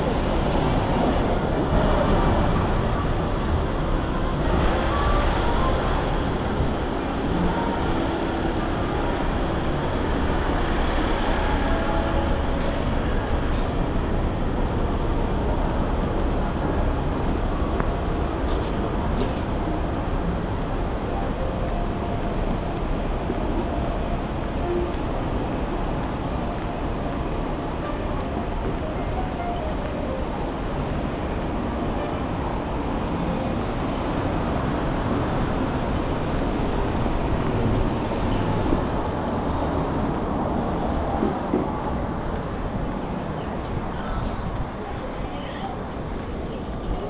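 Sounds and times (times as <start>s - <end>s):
traffic rumble: 0.0s - 47.0s
urban bustle: 0.0s - 47.0s.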